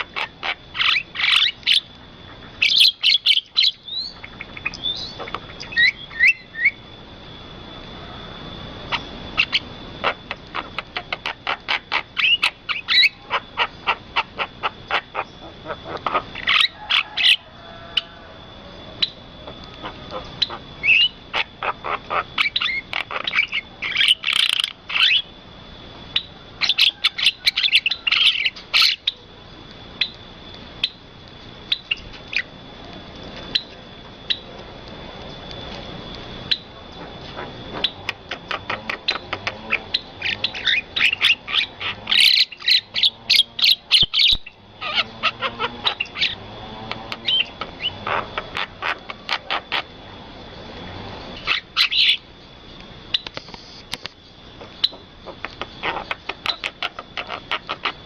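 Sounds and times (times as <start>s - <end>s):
steady high-pitched tone: 0.0s - 55.8s
birds chirping: 0.0s - 58.0s.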